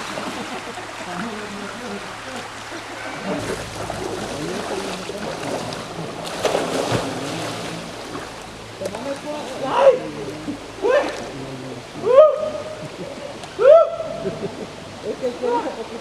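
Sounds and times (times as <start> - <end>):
creek water running: 0.0 - 16.0
people chattering: 0.0 - 16.0.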